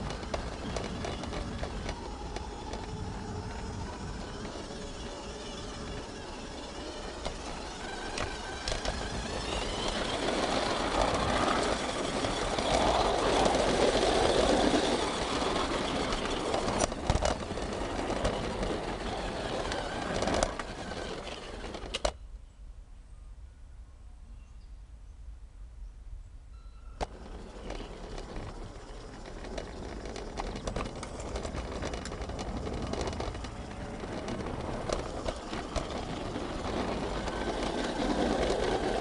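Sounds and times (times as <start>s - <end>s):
model train motor whirring: 0.0s - 22.2s, 27.0s - 39.0s.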